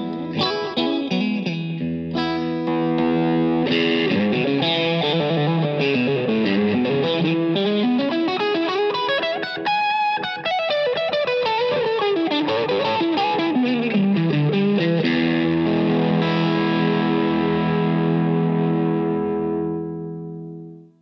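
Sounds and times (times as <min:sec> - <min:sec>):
electric guitar runs and chord: 0:00.0 - 0:20.9.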